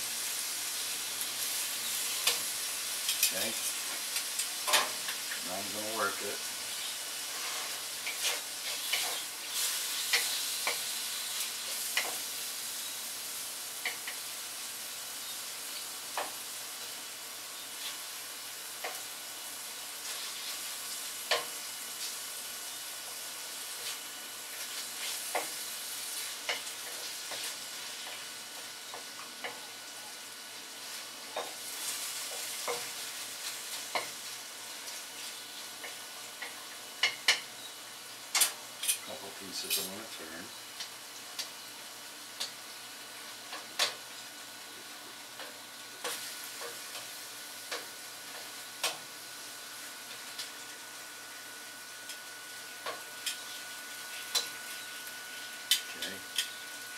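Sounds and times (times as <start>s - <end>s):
chicken sizzling in hot oil: 0.0s - 56.9s.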